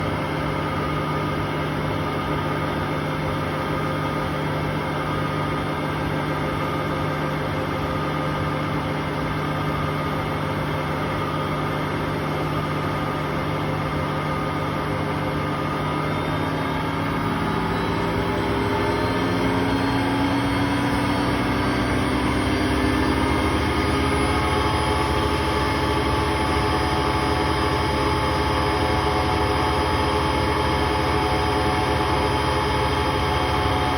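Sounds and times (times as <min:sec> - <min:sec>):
washing machine spinning: 0:00.0 - 0:33.9.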